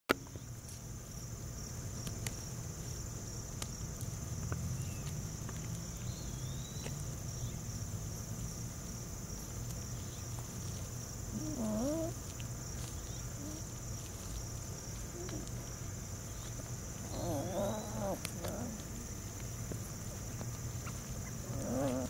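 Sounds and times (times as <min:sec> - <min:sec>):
insects chirring: 0:00.1 - 0:22.0.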